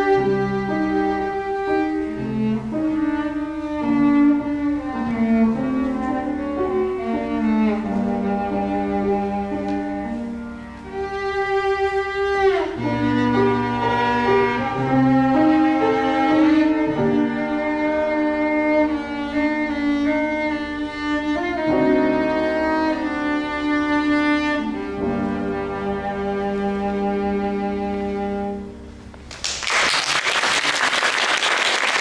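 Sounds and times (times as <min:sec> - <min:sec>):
bowed cello melody: 0:00.0 - 0:29.3
piano accompaniment: 0:00.0 - 0:29.7.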